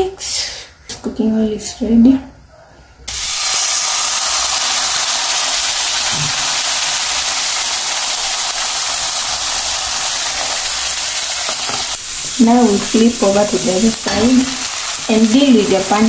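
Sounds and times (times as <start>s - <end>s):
batter sizzling in frying pan: 3.1s - 16.0s.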